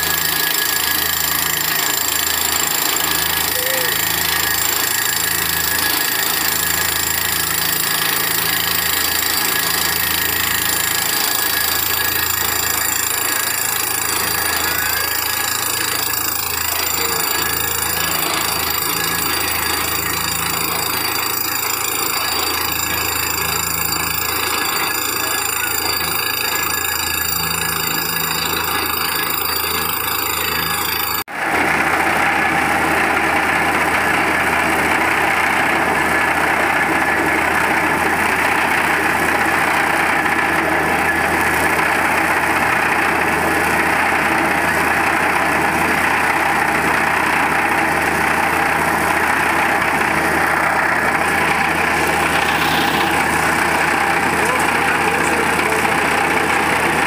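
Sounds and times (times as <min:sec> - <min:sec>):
drilling rig engine drone: 0:00.0 - 0:57.0.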